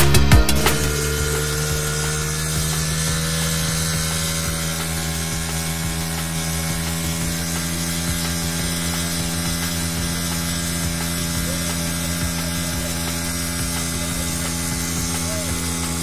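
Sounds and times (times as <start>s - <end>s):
motorcycle engine at high revs: 0.0s - 16.0s
tyre spinning on wet road: 0.7s - 16.0s.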